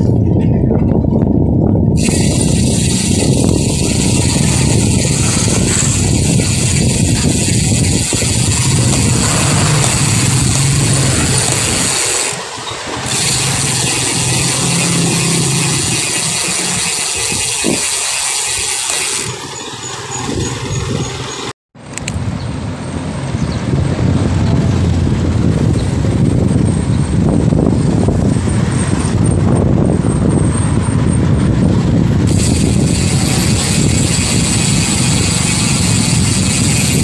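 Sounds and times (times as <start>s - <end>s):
wind rushing over microphone: 0.0s - 19.6s, 20.2s - 37.0s
road traffic: 0.0s - 37.0s.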